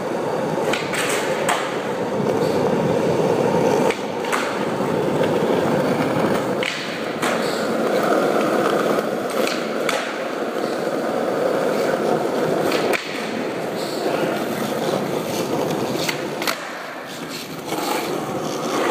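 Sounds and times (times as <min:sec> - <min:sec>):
skateboard clacks: 0:00.0 - 0:18.9
skateboard wheels rolling on asphalt: 0:00.0 - 0:18.9.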